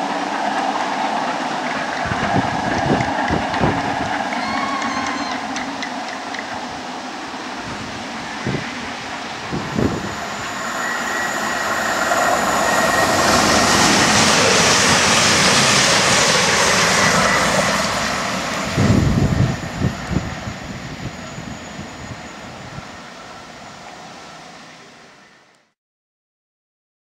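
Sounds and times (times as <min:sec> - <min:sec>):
diesel train passing: 0:00.0 - 0:25.6.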